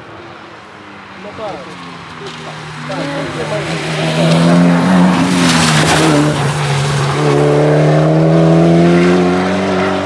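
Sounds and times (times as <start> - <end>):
rally car engine accelerating: 1.8 - 10.0.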